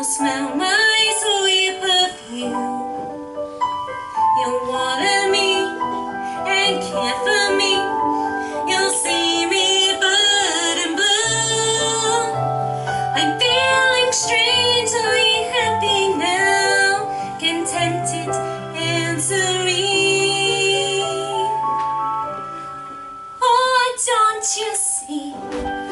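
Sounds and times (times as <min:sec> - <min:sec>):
woman singing a ballad: 0:00.0 - 0:03.3, 0:04.2 - 0:21.8, 0:23.4 - 0:25.8
musical theatre accompaniment: 0:00.0 - 0:25.9.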